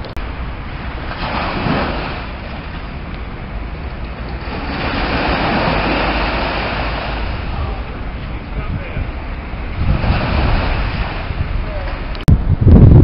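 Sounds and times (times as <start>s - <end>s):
river water washing against wall: 0.0s - 12.3s
wind rumbling on microphone: 0.0s - 13.0s.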